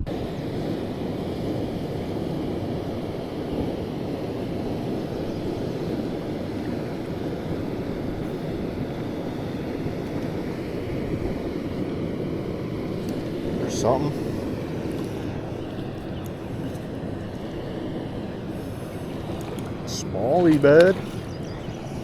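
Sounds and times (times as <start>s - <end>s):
water rushing from spillway: 0.0s - 22.0s.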